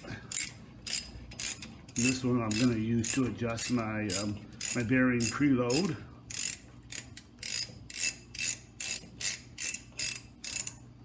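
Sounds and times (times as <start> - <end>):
ratchet wrench clicking: 0.3 - 10.8.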